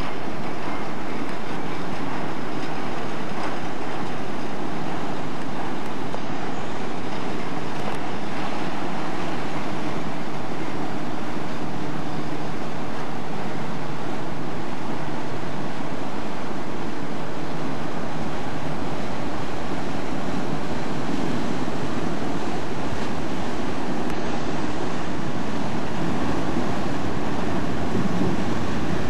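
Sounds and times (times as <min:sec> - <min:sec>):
sea wash: 0:00.0 - 0:29.0
wind buffeting microphone: 0:00.0 - 0:29.0.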